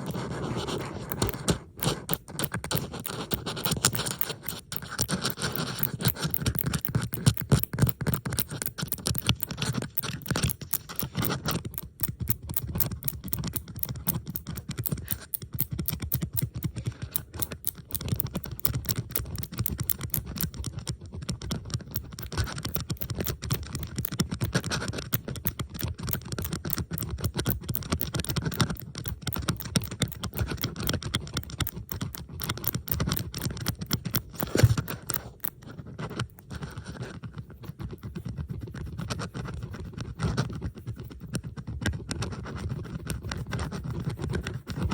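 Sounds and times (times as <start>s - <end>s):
metal pins scratching and clicking: 0.0s - 44.9s.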